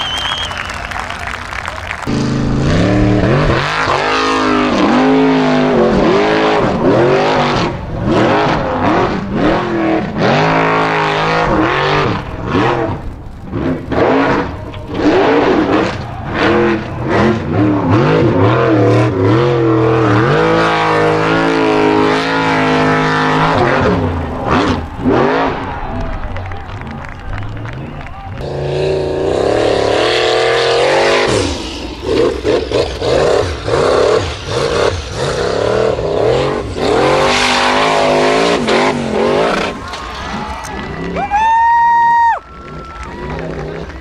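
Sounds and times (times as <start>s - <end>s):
buggy engines revving: 0.0s - 44.0s.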